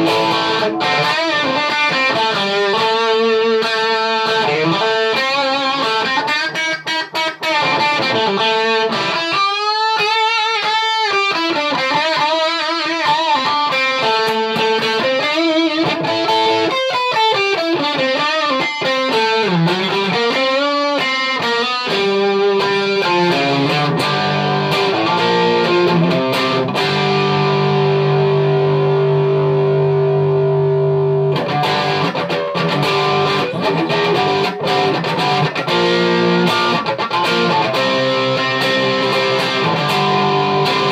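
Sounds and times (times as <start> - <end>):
electric guitar playing: 0.0 - 40.9.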